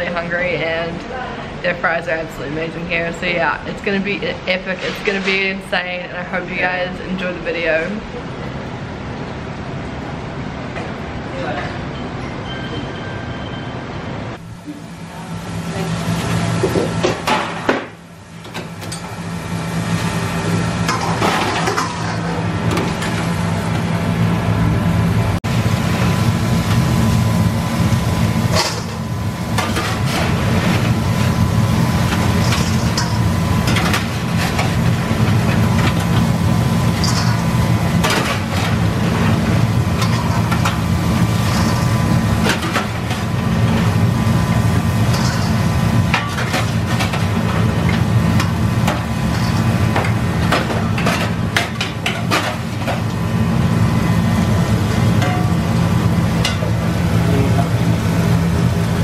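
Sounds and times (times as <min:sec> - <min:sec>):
kitchen equipment humming: 0:00.0 - 0:59.0.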